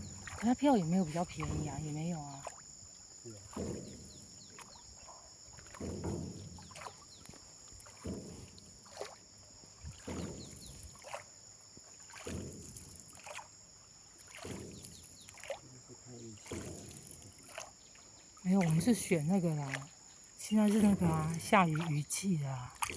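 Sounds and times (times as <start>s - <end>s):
oars splashing through water: 0.0s - 22.9s.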